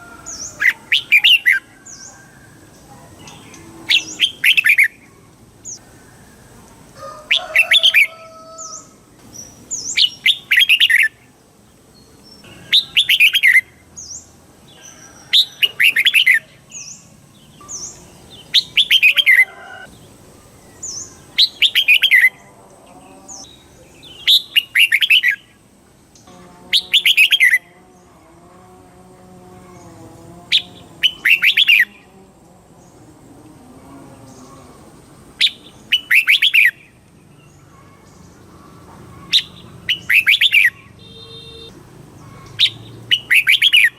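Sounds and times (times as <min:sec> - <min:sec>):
bird warbling song: 0:00.0 - 0:06.4, 0:07.3 - 0:28.1, 0:29.6 - 0:32.2, 0:34.1 - 0:43.9.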